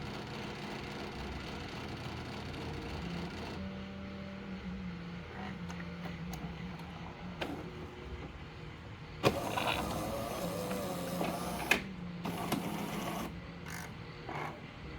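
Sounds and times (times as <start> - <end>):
coffee machine motor hum: 0.0 - 14.9.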